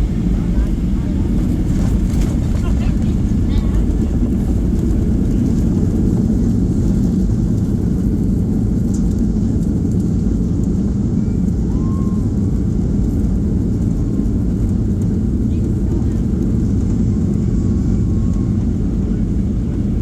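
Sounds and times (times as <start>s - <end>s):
aircraft cabin low rumble: 0.0s - 20.0s.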